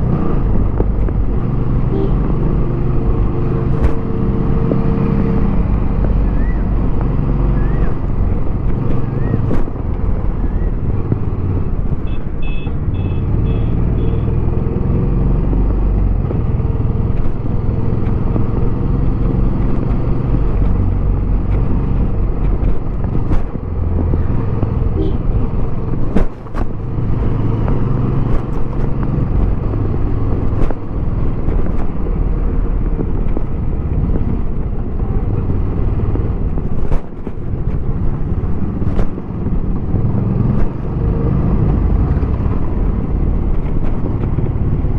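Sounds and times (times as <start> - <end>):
wind on microphone: 0.0 - 12.4, 14.4 - 44.9.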